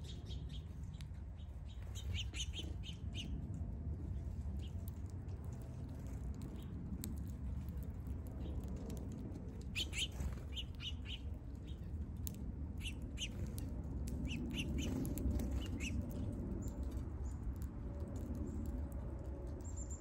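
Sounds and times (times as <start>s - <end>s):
songbirds chirping: 0.0s - 5.8s, 9.6s - 20.0s.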